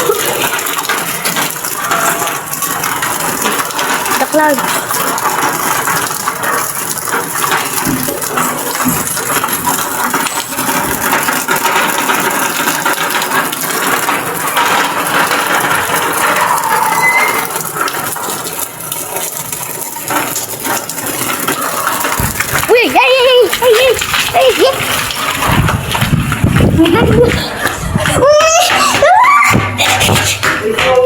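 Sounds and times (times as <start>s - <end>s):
heavy rain pelting down: 0.0s - 31.0s.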